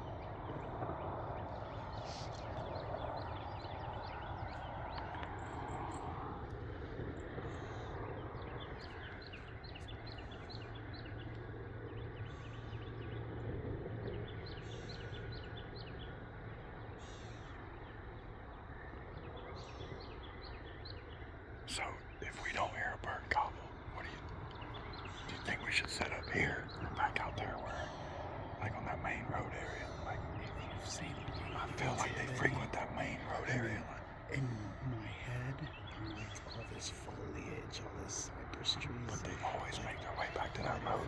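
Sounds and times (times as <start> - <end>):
small birds chirping: 0.0 - 41.0
steady low hum: 0.0 - 41.0.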